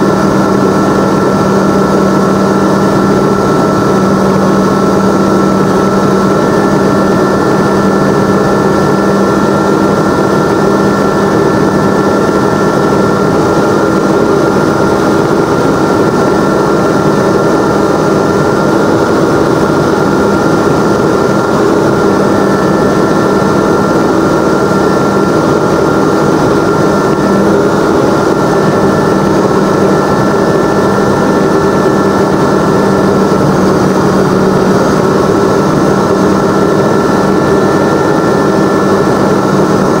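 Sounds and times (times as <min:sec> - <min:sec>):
aircraft engine and propeller drone: 0:00.0 - 0:40.0
rushing air: 0:00.0 - 0:40.0.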